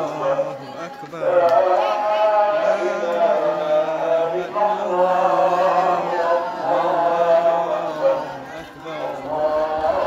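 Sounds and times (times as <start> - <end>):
group of voices chanting prayers: 0.0 - 10.0.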